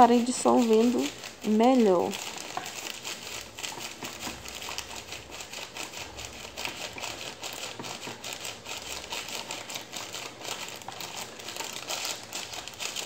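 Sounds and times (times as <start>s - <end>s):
plastic sachet crinkling: 0.0s - 13.0s.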